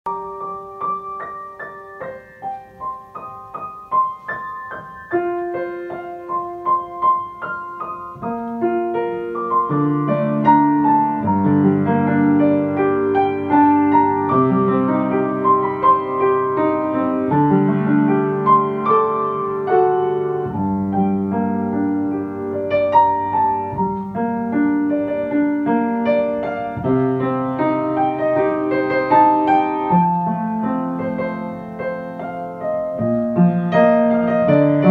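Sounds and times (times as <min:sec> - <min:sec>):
gentle ambient piano music: 0:00.1 - 0:34.9.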